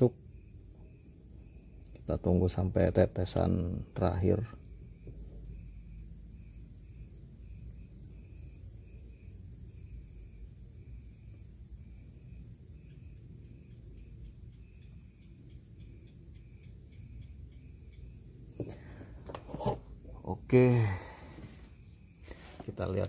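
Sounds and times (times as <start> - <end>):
insect high pulsing trill: 0.0 - 23.0
insect lower chirp: 0.0 - 23.0.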